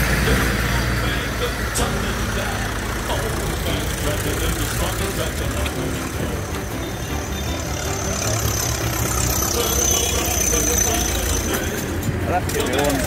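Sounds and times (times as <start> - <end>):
tractor engines running: 0.0 - 13.0.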